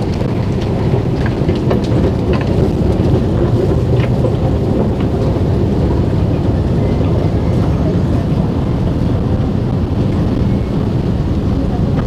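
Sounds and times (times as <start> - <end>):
escalator rumble: 0.0 - 12.0.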